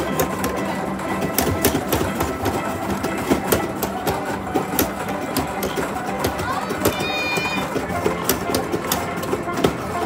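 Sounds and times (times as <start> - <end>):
background din: 0.0 - 10.0
balls clicking and clattering: 0.0 - 10.0.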